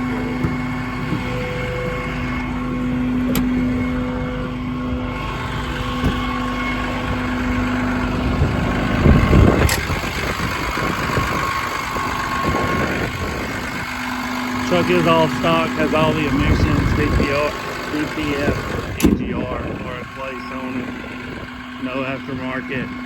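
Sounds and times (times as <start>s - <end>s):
diesel engine running: 0.0s - 23.0s
steady whine: 0.0s - 23.0s.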